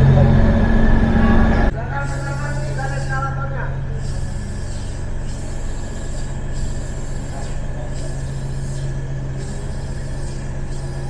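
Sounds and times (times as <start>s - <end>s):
high whine: 0.0s - 11.0s
train low hum: 0.0s - 11.0s.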